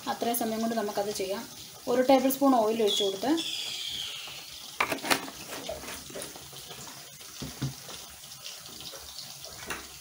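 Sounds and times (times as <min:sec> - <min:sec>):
chicken frying in oil: 0:00.0 - 0:10.0.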